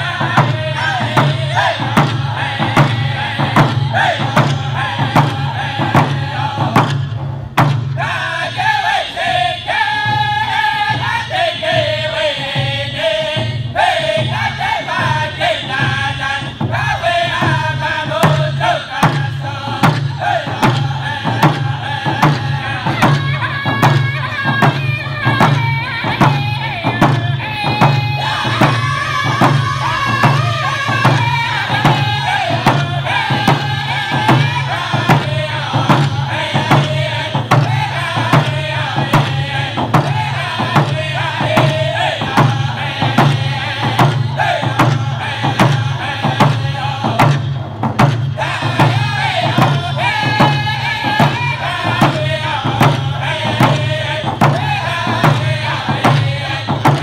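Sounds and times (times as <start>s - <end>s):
frame hand drums beating: 0.0s - 8.0s, 15.1s - 57.0s
men singing together: 0.0s - 57.0s.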